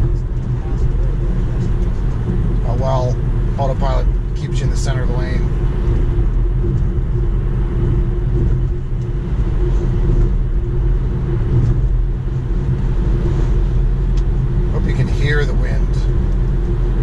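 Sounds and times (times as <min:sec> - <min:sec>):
faint steady hum: 0:00.0 - 0:17.0
tyre rumble on road: 0:00.0 - 0:17.0.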